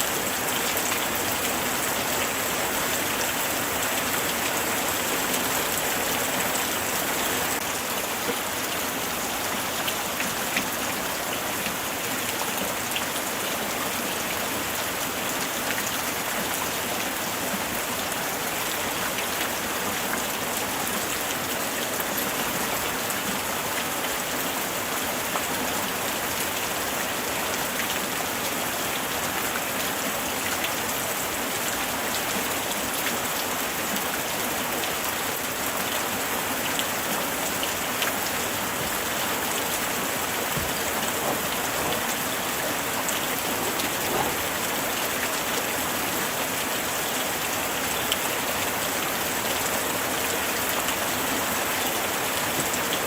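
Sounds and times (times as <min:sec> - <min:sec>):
light rain falling: 0:00.0 - 0:53.0.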